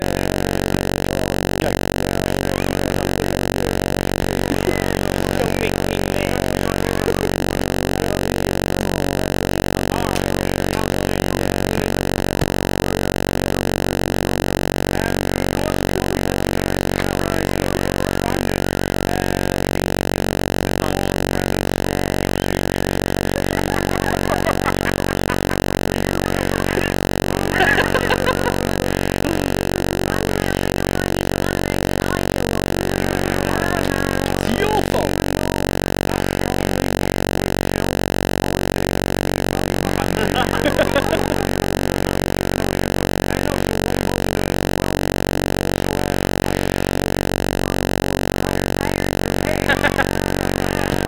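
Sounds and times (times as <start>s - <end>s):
buzzing drone: 0.0s - 51.0s
faint voices: 0.0s - 51.0s.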